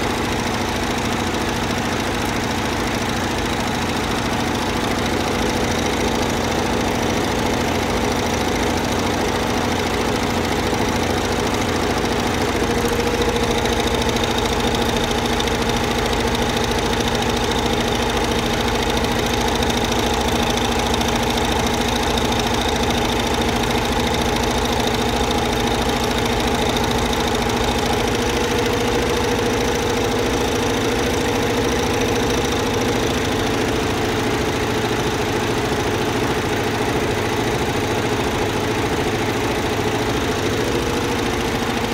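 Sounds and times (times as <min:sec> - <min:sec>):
embroidery machine stitching: 0:00.0 - 0:41.9.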